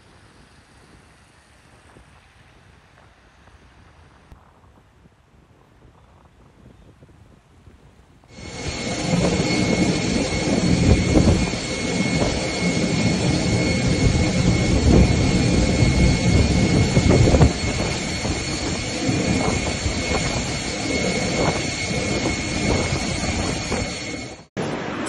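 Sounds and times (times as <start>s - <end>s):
jet engine whine: 0.0s - 4.3s, 8.3s - 25.0s
jet engine low rumble: 0.0s - 4.7s, 8.3s - 25.0s.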